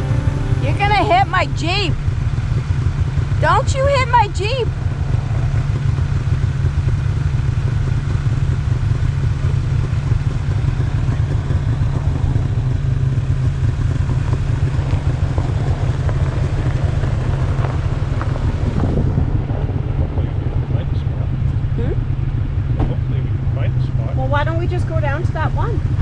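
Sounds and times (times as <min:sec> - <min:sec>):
engine and road rumble: 0:00.0 - 0:02.1, 0:03.0 - 0:26.0.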